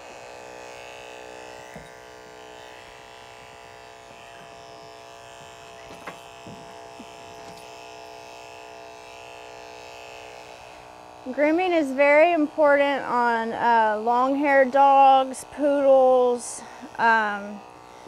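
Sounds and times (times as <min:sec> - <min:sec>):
electric clippers buzzing: 0:00.0 - 0:18.0.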